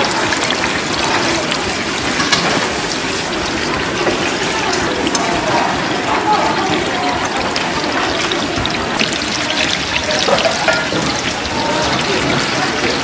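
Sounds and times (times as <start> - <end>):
crackles and pops of frying: 0.0 - 13.0
oil sizzling in wok: 0.0 - 13.0.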